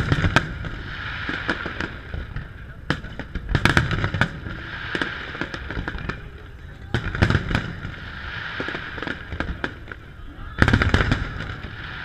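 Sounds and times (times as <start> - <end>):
fireworks bursting: 0.0 - 12.0
fireworks pops: 0.0 - 12.0.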